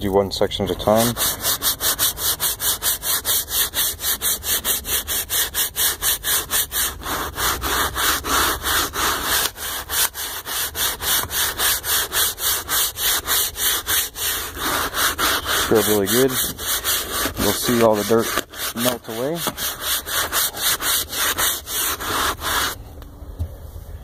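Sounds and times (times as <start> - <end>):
brush scrubbing wet leather: 0.7 - 22.8.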